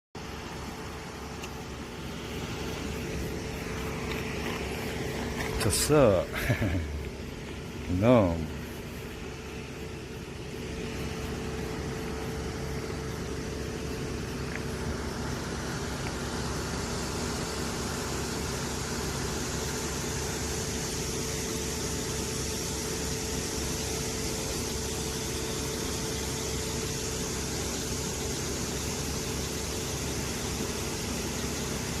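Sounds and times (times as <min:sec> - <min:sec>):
machine humming with hiss: 0:00.2 - 0:32.0.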